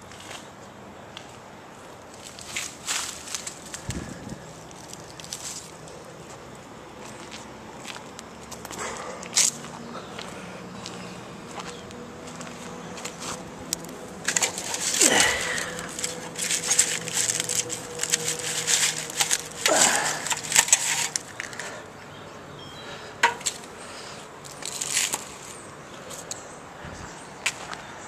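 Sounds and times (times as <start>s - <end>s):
footsteps crunching dry leaves: 2.1s - 21.8s, 23.3s - 26.3s.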